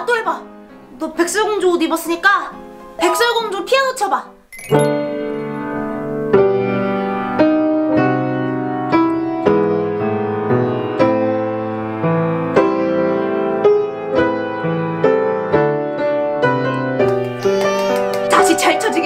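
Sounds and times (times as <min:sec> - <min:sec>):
grand piano melody over chords: 0:02.5 - 0:19.0.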